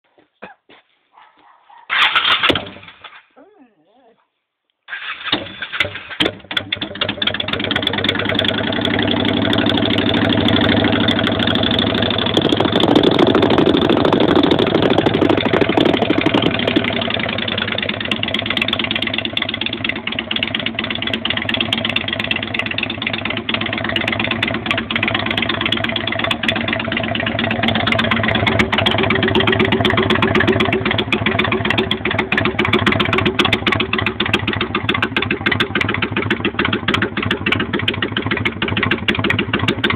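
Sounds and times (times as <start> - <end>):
motorcycle engine idling: 5.5 - 39.9.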